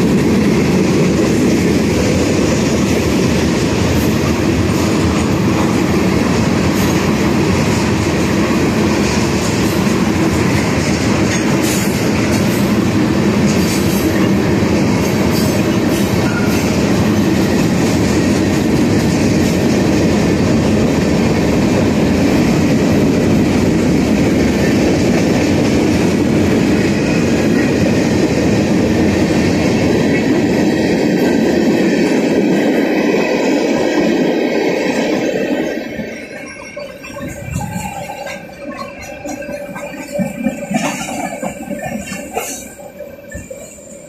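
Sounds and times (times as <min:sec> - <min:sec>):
freight train wheels clattering: 0:00.0 - 0:44.0.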